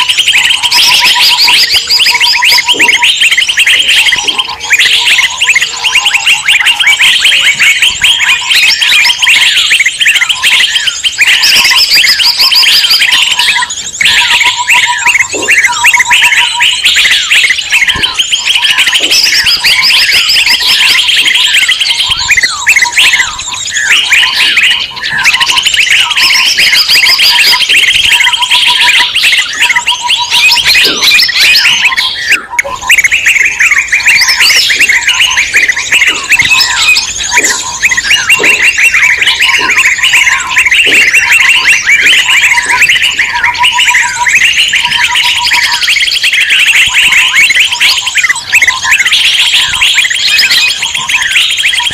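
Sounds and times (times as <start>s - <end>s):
songbirds chattering: 0.0s - 51.9s.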